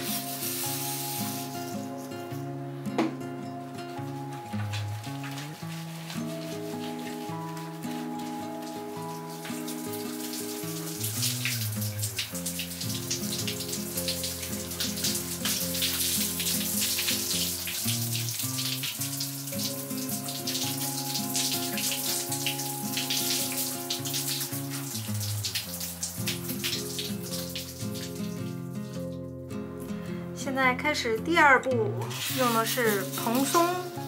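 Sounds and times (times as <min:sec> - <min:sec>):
water running from tap: 0:00.0 - 0:02.4, 0:03.9 - 0:29.8, 0:32.0 - 0:34.0
music with held notes: 0:00.0 - 0:34.0.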